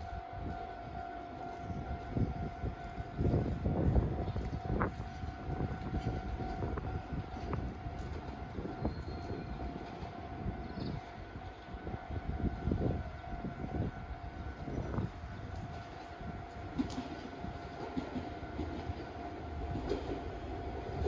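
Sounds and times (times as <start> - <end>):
crossing warning alarm ringing: 0.0 - 21.0
train rumbling past: 0.0 - 21.0.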